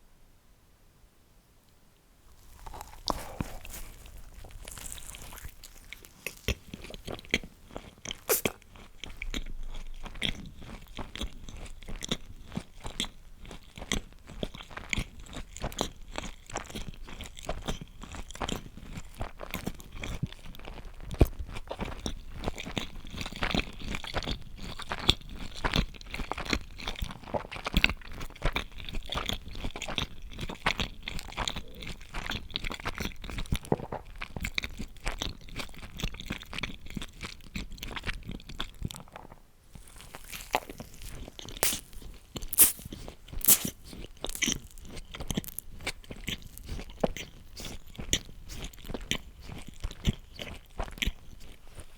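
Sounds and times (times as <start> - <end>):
chewing and crunching food: 2.2 - 51.9.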